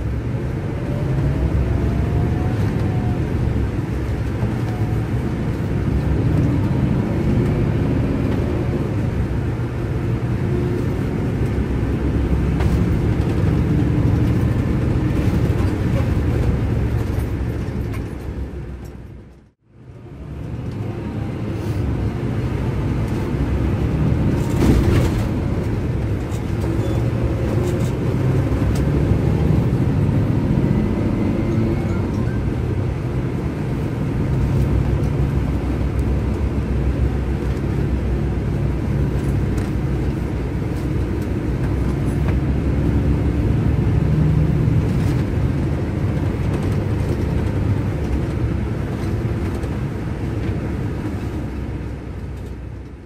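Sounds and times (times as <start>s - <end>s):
diesel engine drone inside coach: 0.0s - 53.0s.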